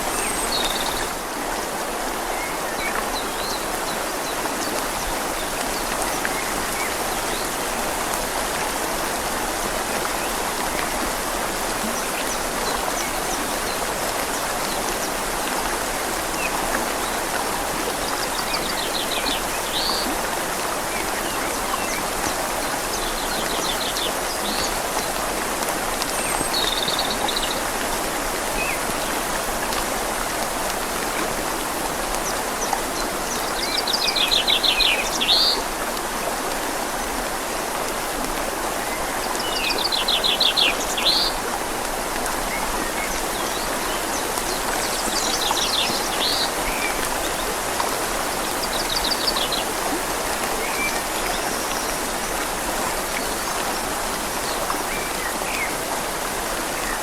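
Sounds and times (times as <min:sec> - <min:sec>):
rain on leaves: 0:00.0 - 0:57.0
river flowing: 0:00.0 - 0:57.0.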